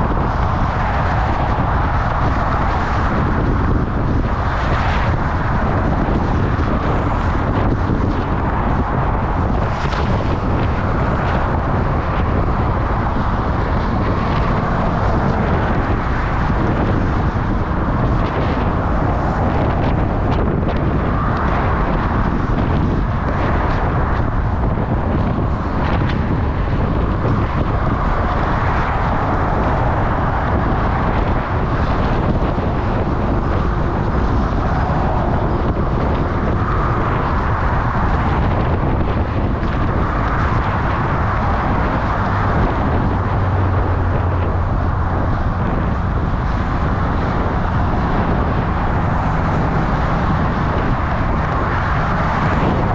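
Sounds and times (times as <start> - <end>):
road and traffic noise: 0.0 - 52.9
wind rushing over microphone: 0.0 - 52.9.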